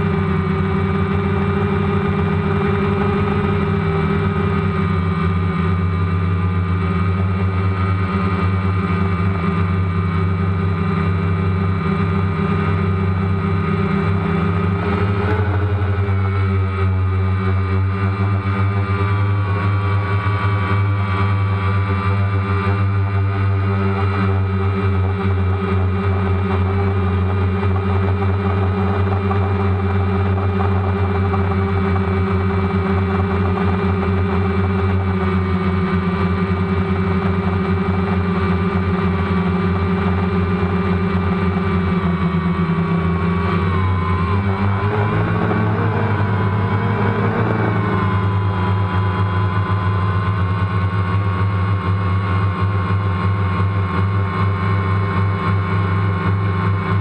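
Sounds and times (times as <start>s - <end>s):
drone motors and propellers: 0.0s - 57.0s.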